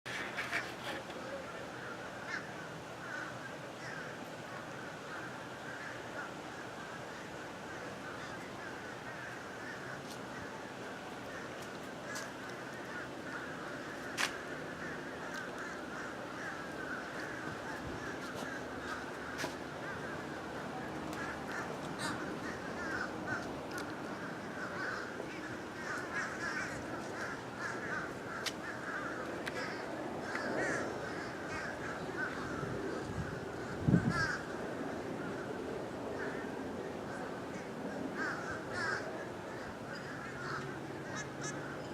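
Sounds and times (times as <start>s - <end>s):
flock of birds chattering: 0.1s - 41.9s.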